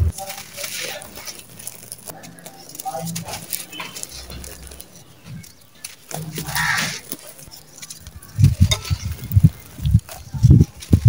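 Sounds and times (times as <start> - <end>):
dry dirt crunching: 0.0 - 11.0.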